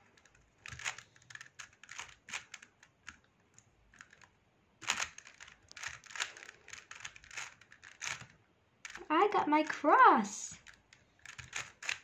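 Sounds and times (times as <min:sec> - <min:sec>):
puzzle cube clicking and clacking: 0:00.0 - 0:09.9, 0:10.5 - 0:12.0.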